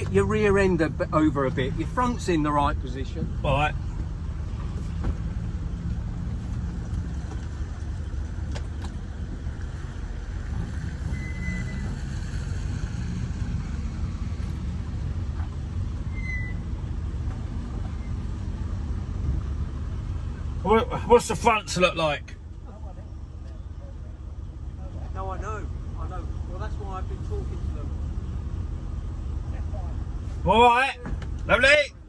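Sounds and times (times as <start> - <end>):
car engine running at low speed: 0.0 - 32.0.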